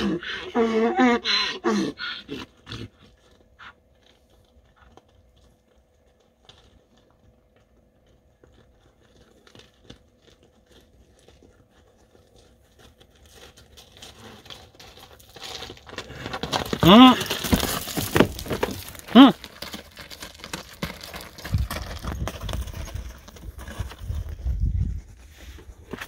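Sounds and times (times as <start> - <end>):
footsteps on gravel: 3.3 - 26.0.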